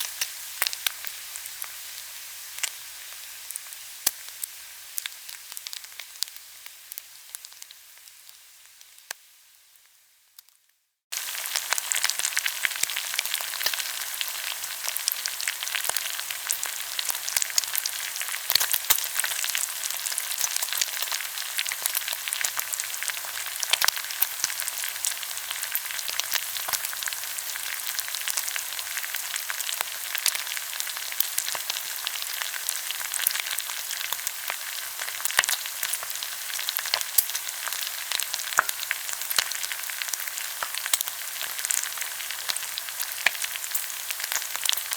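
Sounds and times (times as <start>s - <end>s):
pork sizzling in hot fat: 0.0s - 44.9s.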